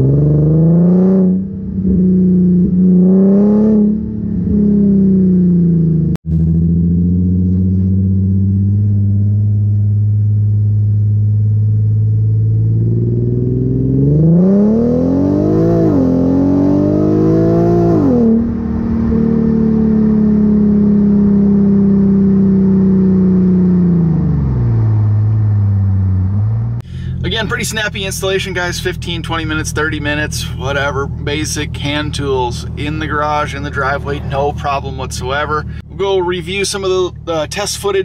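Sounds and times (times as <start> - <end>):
car engine and exhaust: 0.0 - 38.0.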